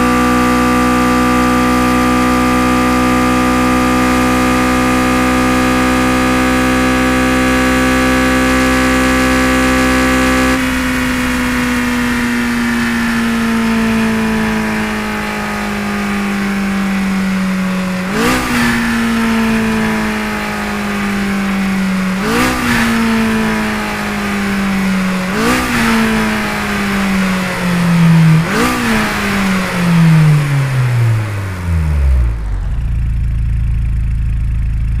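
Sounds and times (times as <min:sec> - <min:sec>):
sports car engine revving: 0:00.0 - 0:35.0.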